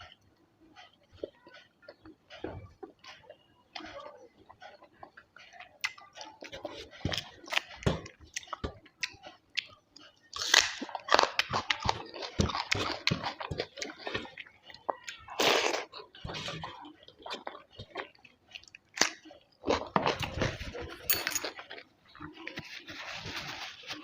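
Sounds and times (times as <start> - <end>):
chewing and biting food: 0.0 - 24.0.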